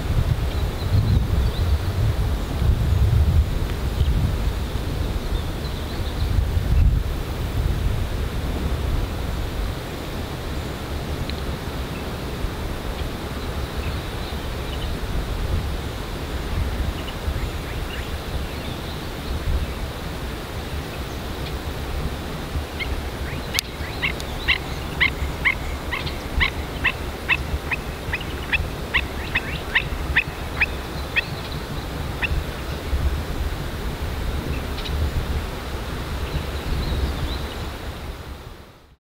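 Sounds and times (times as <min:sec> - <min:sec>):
wind rumble on microphone: 0:00.0 - 0:39.0.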